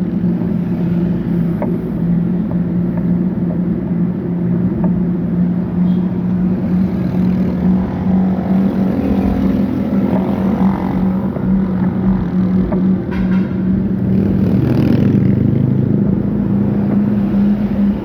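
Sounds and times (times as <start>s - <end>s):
road and wind noise: 0.0s - 18.0s
vehicle engine humming: 0.0s - 18.0s.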